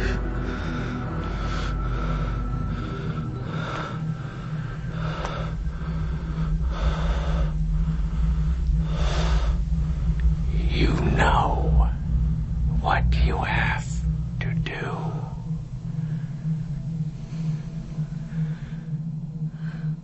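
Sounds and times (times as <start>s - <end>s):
heavy rasping breathing: 0.0s - 20.0s
steady low drone: 0.0s - 20.0s.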